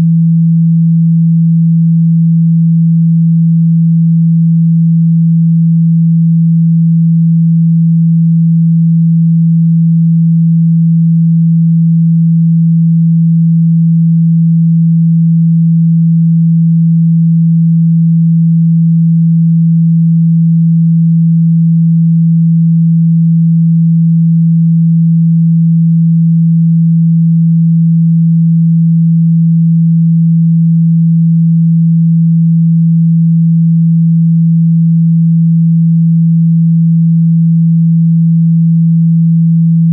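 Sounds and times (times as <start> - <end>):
low steady sine tone: 0.0 - 39.9.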